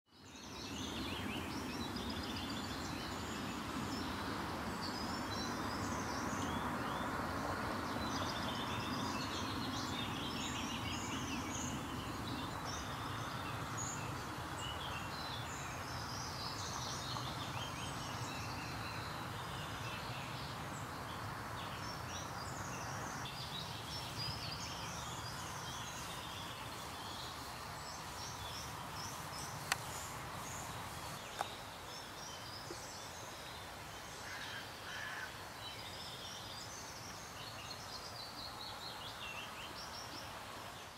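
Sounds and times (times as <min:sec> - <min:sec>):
small birds chirping and singing: 0:00.1 - 0:40.9.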